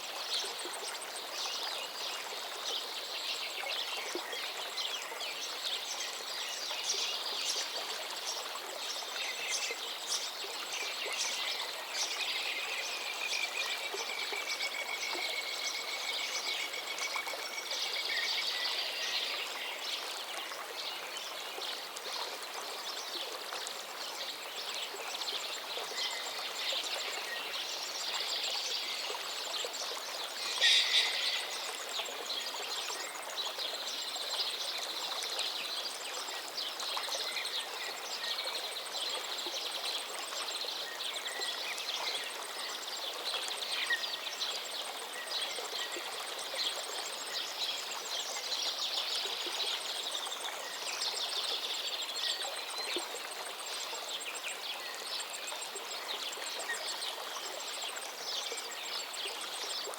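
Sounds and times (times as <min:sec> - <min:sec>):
river water flowing: 0:00.0 - 0:59.9
songbirds chirping: 0:00.4 - 0:59.9.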